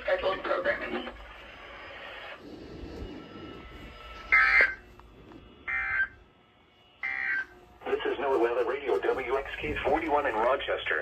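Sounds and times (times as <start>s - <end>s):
harsh buzzing data bursts: 0.0s - 10.2s.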